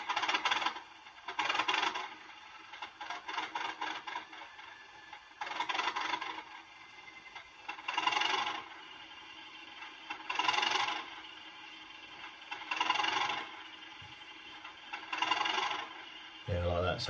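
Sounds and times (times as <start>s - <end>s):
model train diesel engine sound: 0.0s - 17.0s.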